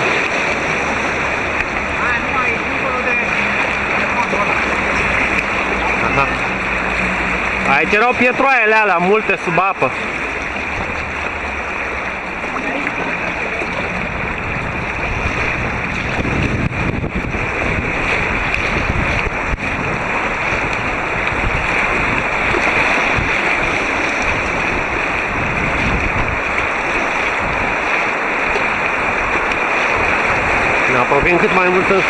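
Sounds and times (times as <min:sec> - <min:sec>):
rushing white water: 0:00.0 - 0:32.0.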